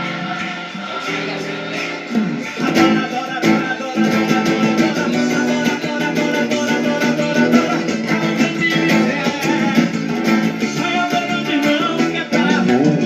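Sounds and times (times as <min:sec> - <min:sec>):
gospel band instrumental music: 0:00.0 - 0:13.0
guitar: 0:00.0 - 0:13.0.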